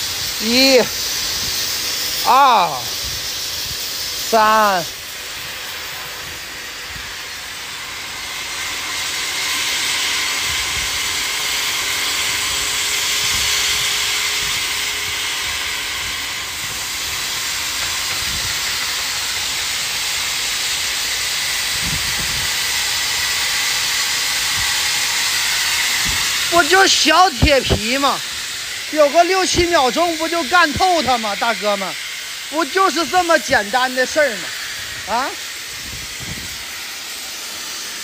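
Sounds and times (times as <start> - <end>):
cutting torch hissing: 0.0 - 38.0.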